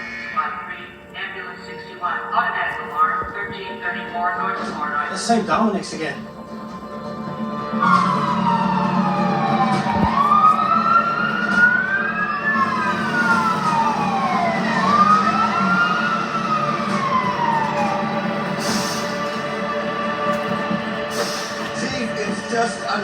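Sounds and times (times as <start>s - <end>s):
sirens wailing: 0.0s - 23.0s.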